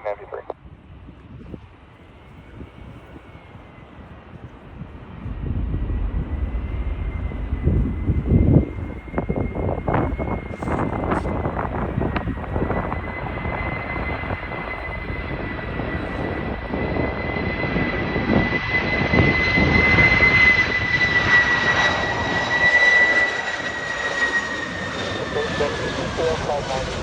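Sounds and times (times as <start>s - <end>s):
jet airliner engines whining: 0.0s - 27.0s.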